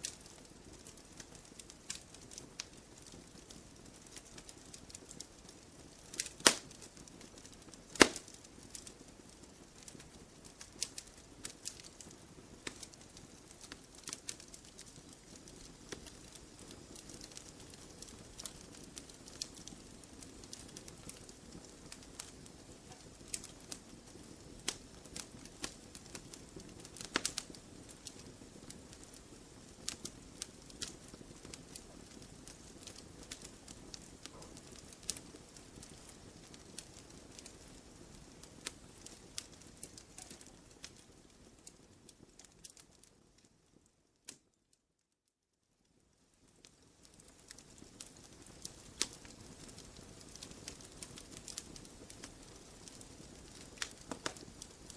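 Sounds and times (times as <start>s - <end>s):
campfire crackling: 0.0s - 44.5s, 45.9s - 54.9s.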